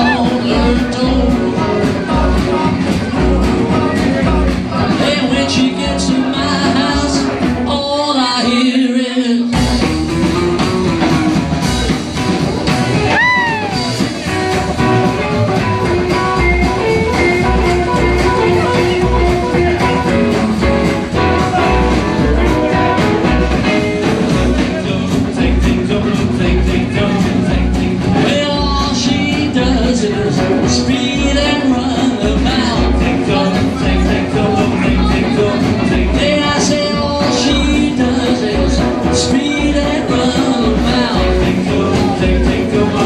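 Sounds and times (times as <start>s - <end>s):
acoustic guitars: 0.0s - 43.0s
double bass: 0.0s - 43.0s
drums: 0.0s - 43.0s
rockabilly band playing: 0.0s - 43.0s.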